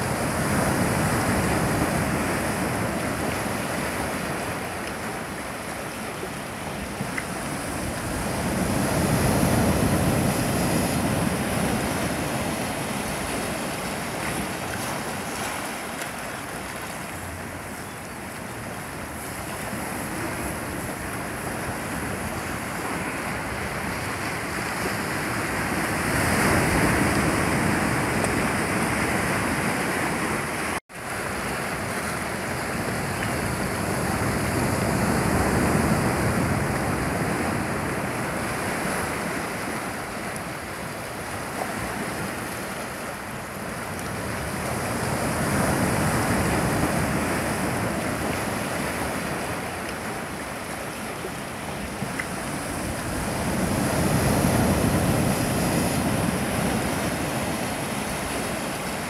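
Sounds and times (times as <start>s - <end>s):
sea surf breaking on rocks: 0.0s - 59.0s.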